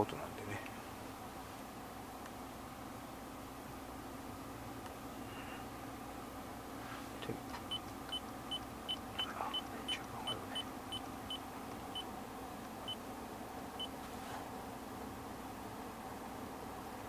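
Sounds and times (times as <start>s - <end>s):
car running with air conditioning: 0.0s - 17.0s.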